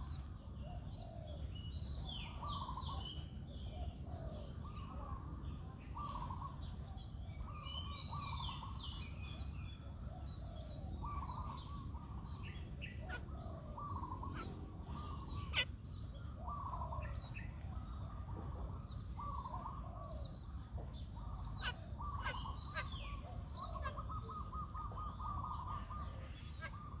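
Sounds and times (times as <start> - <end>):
birds calling and chirping: 0.0 - 27.0.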